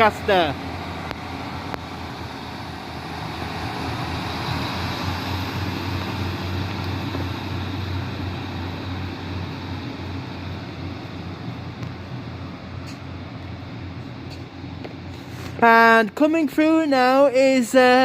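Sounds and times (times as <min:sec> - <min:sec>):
diesel train engines rumbling: 0:00.0 - 0:18.0.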